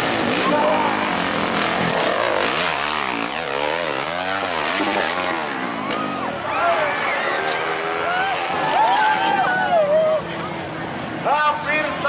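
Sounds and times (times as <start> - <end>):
dirt bike engine revving: 0.0 - 9.7.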